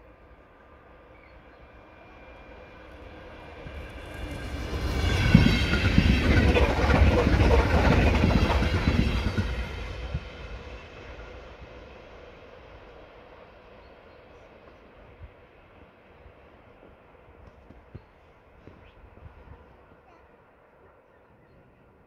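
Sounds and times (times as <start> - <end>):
train high whine: 0.0 - 22.0
train rumble and wheel clatter: 0.0 - 22.0.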